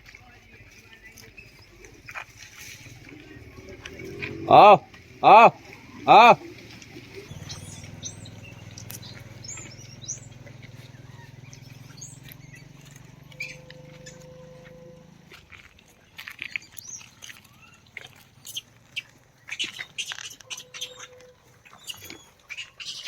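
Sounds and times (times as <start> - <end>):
light ticks and rustles: 0.0 - 5.8, 6.4 - 23.0
small birds chirping: 0.0 - 23.0.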